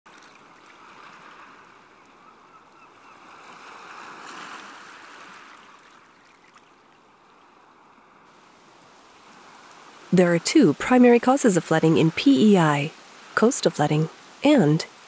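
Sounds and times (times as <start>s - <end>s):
ocean surf washing ashore: 0.1s - 2.1s, 3.0s - 6.6s, 7.5s - 15.0s.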